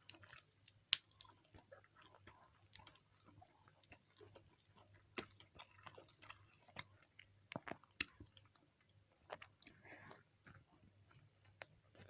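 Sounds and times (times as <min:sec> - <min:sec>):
chewing and biting food: 0:00.0 - 0:12.0.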